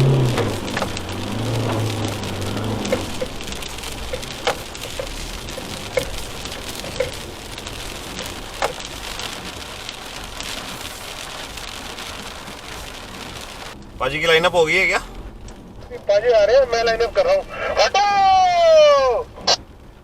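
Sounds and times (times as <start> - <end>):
loud single raindrops: 0.0 - 20.0
low engine hum: 0.0 - 20.0
rain on a vehicle: 0.0 - 20.0.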